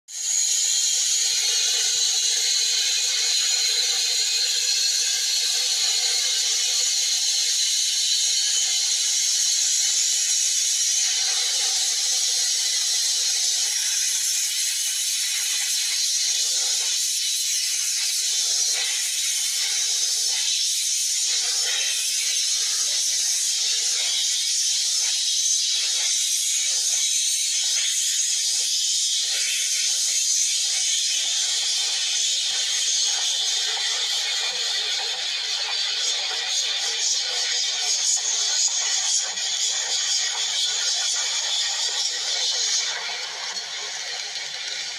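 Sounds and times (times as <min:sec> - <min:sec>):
loud hiss of escaping steam: 0:00.1 - 0:44.9.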